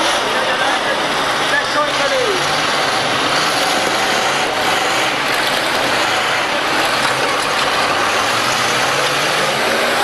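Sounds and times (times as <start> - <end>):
car engines roaring: 0.0 - 10.0.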